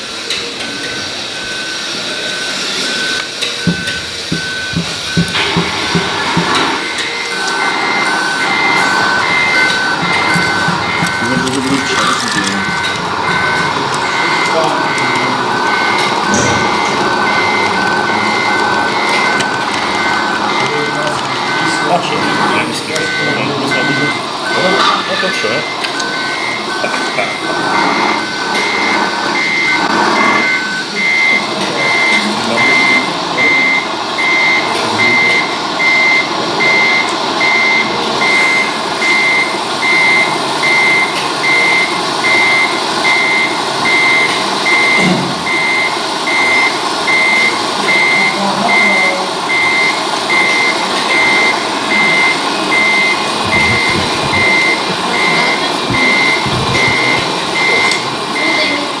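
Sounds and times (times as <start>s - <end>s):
high reversing beeps: 0.0s - 59.0s
lower beep: 0.3s - 58.9s.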